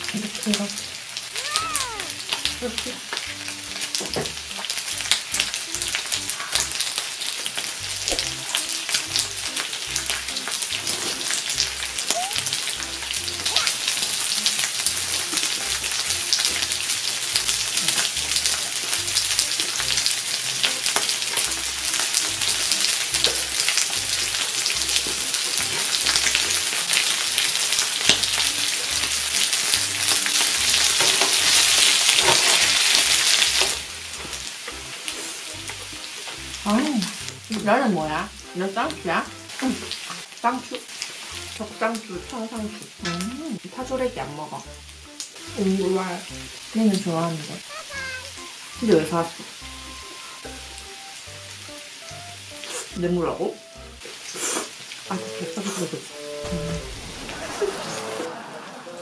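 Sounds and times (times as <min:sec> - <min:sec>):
meat sizzling on a grill pan: 0:00.0 - 0:43.0, 0:43.6 - 0:58.3.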